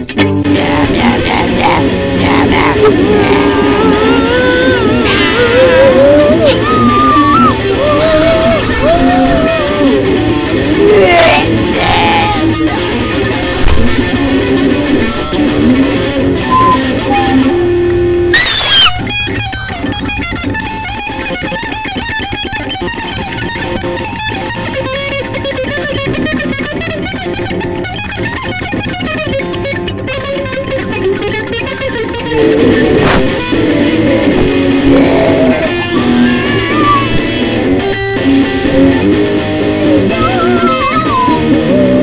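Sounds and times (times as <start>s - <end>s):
band music with electric guitar: 0.0s - 42.0s.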